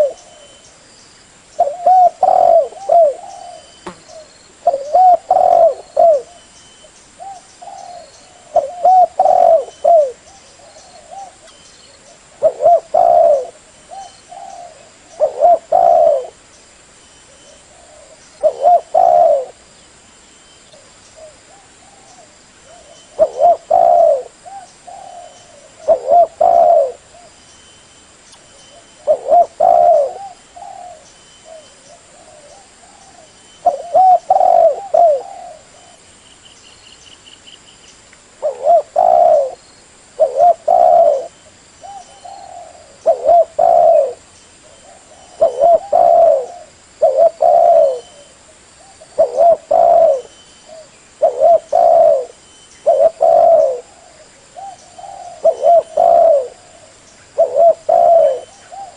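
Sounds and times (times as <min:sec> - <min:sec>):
dove cooing: 0:00.0 - 0:00.6, 0:01.6 - 0:06.5, 0:07.2 - 0:16.4, 0:17.3 - 0:19.6, 0:20.8 - 0:27.4, 0:28.7 - 0:36.0, 0:38.4 - 0:39.6, 0:40.2 - 0:58.9.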